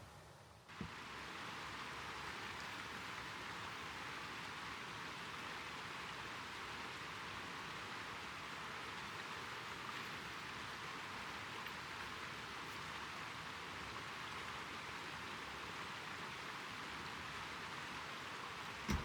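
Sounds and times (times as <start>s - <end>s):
hiss of falling precipitation: 0.7s - 19.0s.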